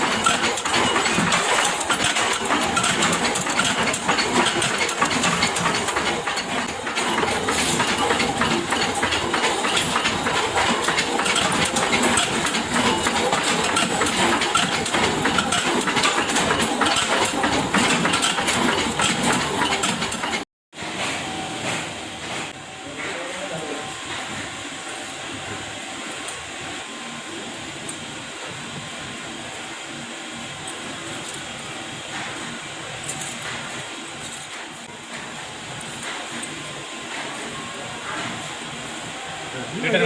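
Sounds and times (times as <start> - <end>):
metalworking machinery running: 0.0 - 40.0.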